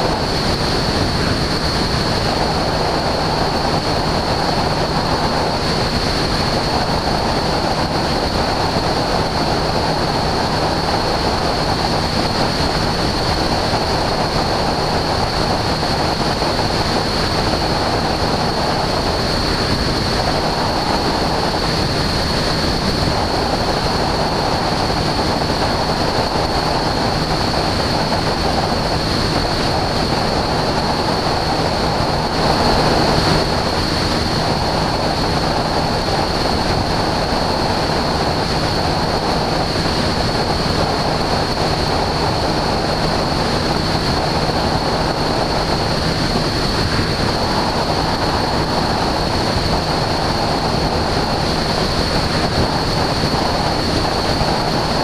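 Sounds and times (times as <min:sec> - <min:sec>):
aircraft engine and propeller drone: 0:00.0 - 0:55.0
wind rushing over microphone: 0:00.0 - 0:55.0.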